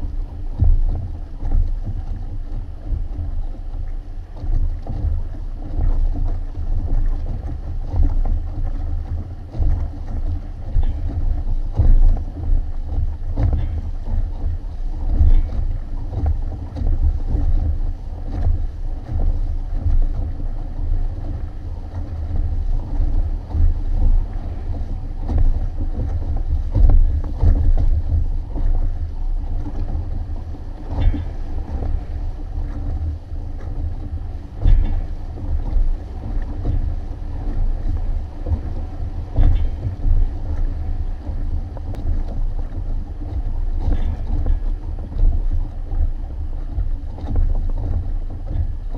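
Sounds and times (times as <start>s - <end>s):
water rushing along hulls: 0.0s - 48.9s
wind buffeting microphone: 0.0s - 48.9s.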